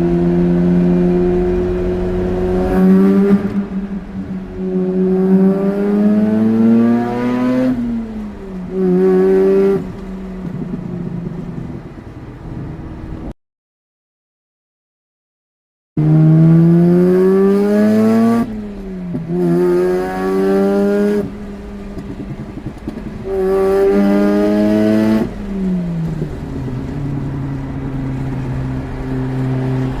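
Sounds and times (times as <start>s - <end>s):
rotary engine accelerating: 0.0s - 13.3s, 16.0s - 30.0s.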